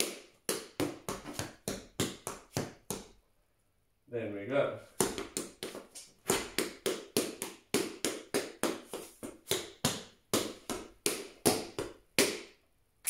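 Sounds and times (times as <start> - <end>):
tap shoes on hard floor: 0.0 - 3.2, 5.0 - 12.4.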